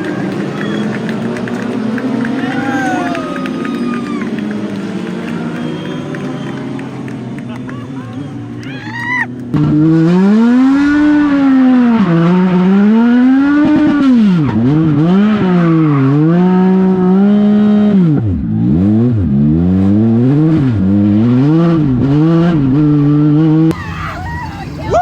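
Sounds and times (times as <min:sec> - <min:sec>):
racing car engine: 0:00.0 - 0:25.0.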